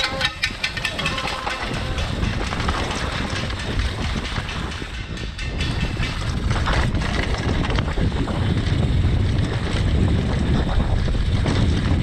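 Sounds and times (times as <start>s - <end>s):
bike knocks and rattles: 0.0s - 12.0s
knobby tyres rolling on dirt: 0.0s - 12.0s
wind buffeting microphone: 0.0s - 12.0s.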